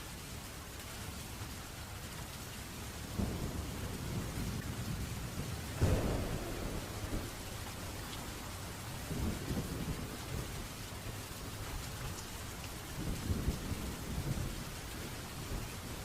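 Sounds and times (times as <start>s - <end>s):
steady rain hissing: 0.0s - 16.0s
low thunder rumbling: 3.0s - 16.0s.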